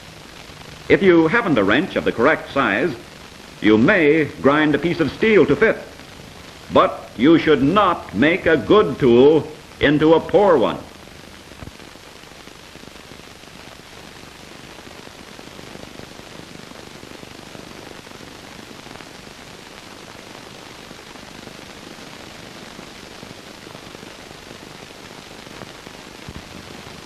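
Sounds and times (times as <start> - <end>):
film soundtrack hiss and crackle: 0.0 - 27.0.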